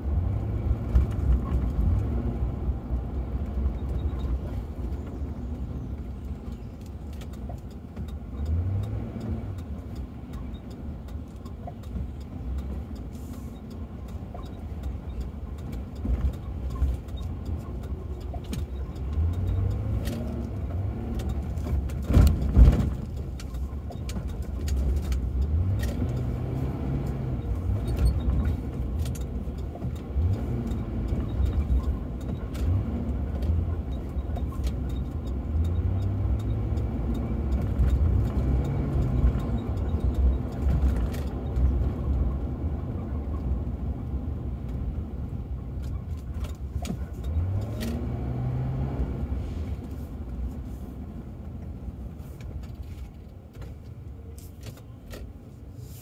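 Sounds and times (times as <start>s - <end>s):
road noise inside car: 0.0s - 56.0s.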